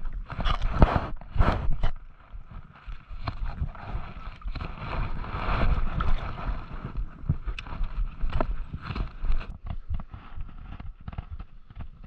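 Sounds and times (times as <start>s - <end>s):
water sloshing and splashing: 0.0s - 10.0s
wind buffeting the microphone: 0.0s - 12.0s.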